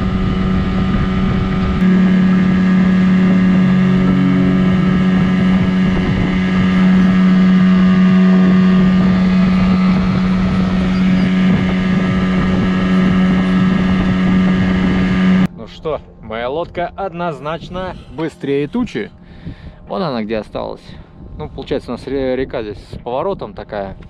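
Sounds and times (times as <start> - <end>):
wind buffeting microphone: 0.0 - 15.5, 16.7 - 24.0
outboard motor at full throttle: 0.0 - 15.6, 16.8 - 21.5.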